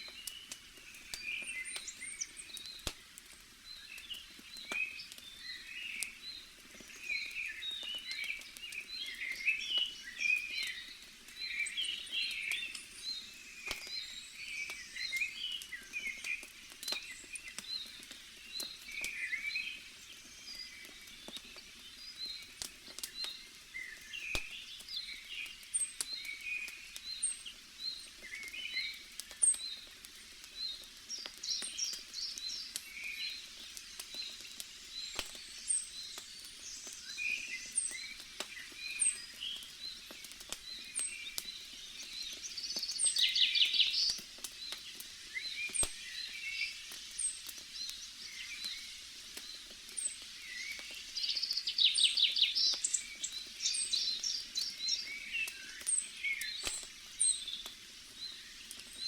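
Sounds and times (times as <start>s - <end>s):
campfire crackling: 0.0s - 59.0s
small birds chirping: 0.0s - 59.0s.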